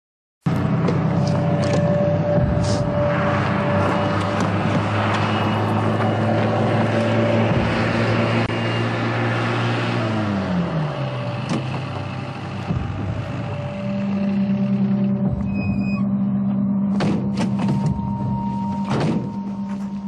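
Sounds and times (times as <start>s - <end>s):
vehicle engine running: 0.5s - 20.0s.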